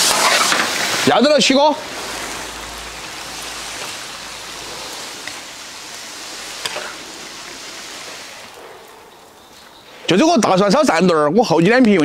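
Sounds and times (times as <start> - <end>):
food sizzling: 0.0 - 10.8.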